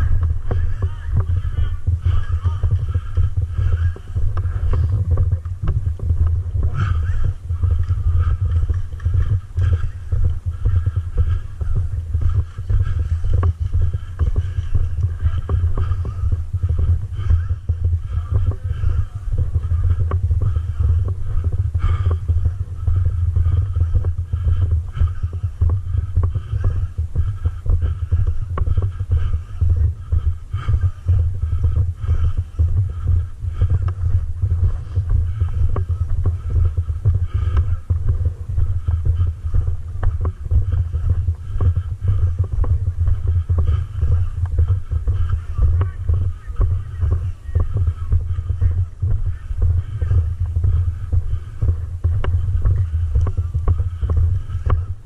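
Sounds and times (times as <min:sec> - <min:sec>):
dense low rumble: 0:00.0 - 0:55.0.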